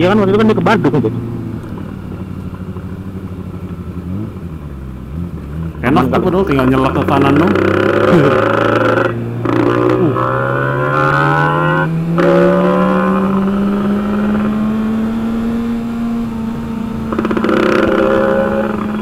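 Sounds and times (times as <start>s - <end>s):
low engine tone rising: 0.0s - 19.0s
motorcycle engine accelerating: 0.0s - 19.0s.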